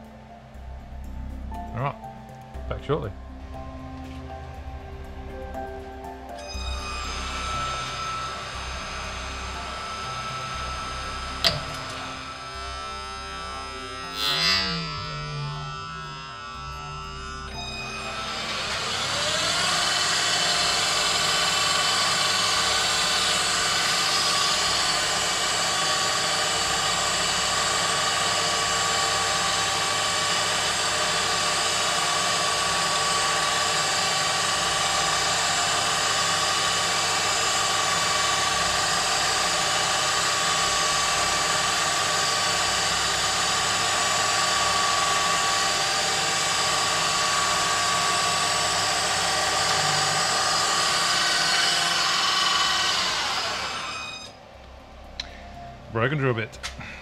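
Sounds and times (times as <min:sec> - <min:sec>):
milling machine spindle whining: 0:00.0 - 0:56.8.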